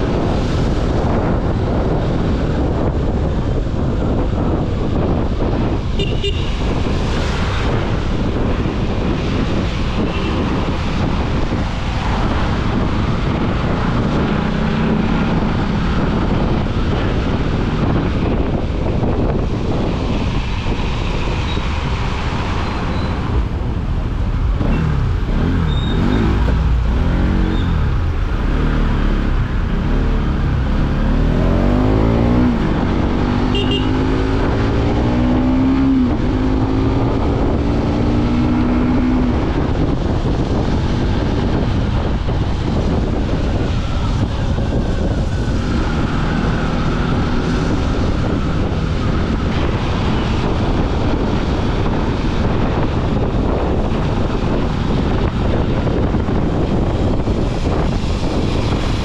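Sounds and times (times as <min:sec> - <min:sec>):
motorcycle engine revving through gears: 0:00.0 - 0:18.5, 0:24.3 - 0:59.0
wind on microphone: 0:00.0 - 0:59.0.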